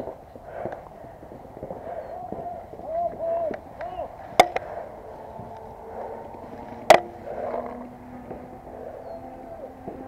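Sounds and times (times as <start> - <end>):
low steady background noise: 0.0 - 10.0.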